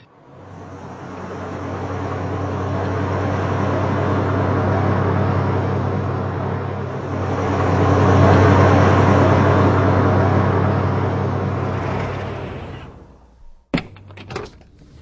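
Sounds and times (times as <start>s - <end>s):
car engine hum: 0.0s - 14.1s
road noise: 0.0s - 14.2s.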